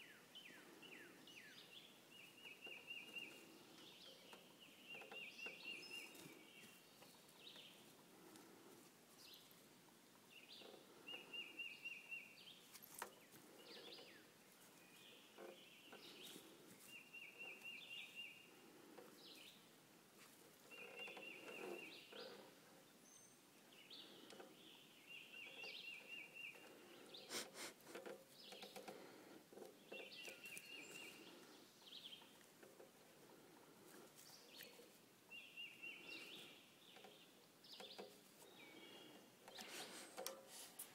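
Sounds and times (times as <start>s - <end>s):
other birds chirping: 0.0s - 40.9s.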